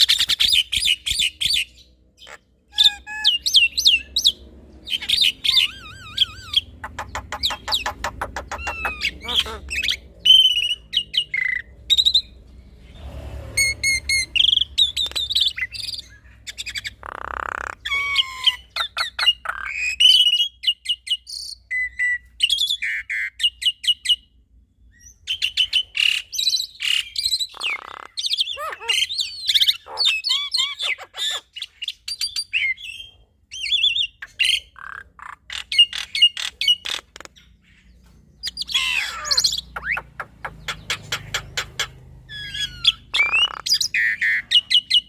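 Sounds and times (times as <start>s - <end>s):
birds singing whistled duet: 0.0s - 12.4s, 13.6s - 17.0s, 17.6s - 45.0s.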